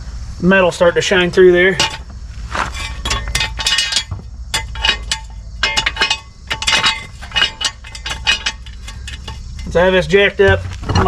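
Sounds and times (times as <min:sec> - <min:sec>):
metal tools clinking: 0:01.7 - 0:11.0.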